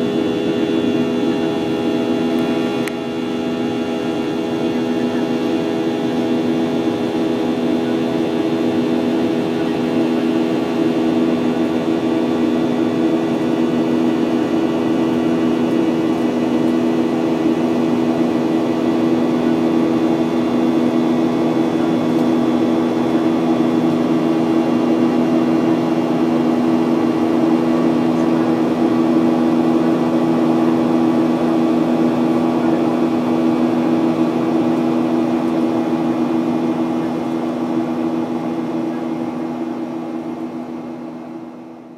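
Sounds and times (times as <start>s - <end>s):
airplane cabin engine drone: 0.0s - 41.9s.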